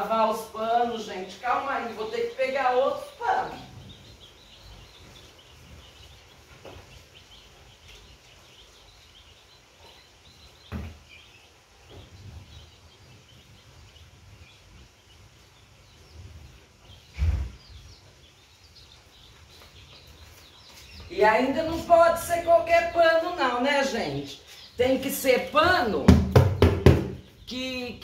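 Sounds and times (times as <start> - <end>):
chicks peeping faintly: 0.0 - 28.0.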